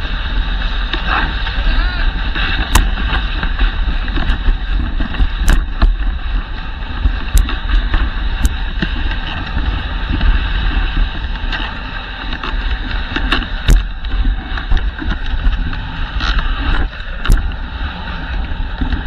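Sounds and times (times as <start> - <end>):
sled clicks: 0.0 - 19.0
sled runners hissing on snow: 0.0 - 19.0
wind on microphone: 0.0 - 19.0.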